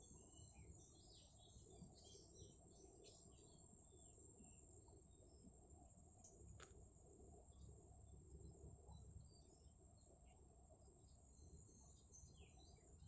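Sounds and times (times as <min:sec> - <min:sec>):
small birds chirping: 0:00.0 - 0:06.8, 0:07.4 - 0:13.0.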